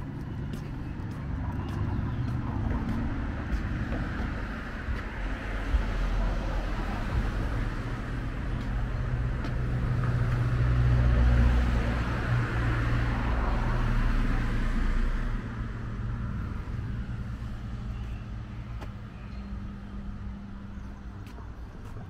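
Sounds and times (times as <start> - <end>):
vehicle passing: 0.0 - 18.8.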